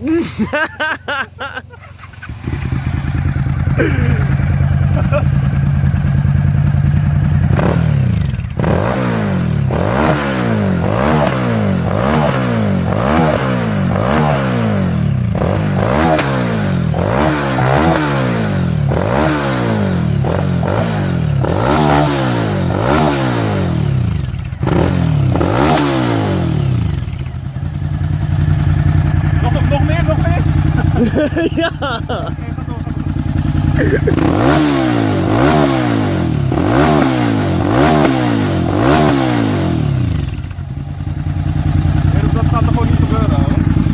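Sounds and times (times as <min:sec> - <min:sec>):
motorcycle engine revving: 0:00.0 - 0:43.9
exhaust pops and backfires: 0:01.9 - 0:43.9.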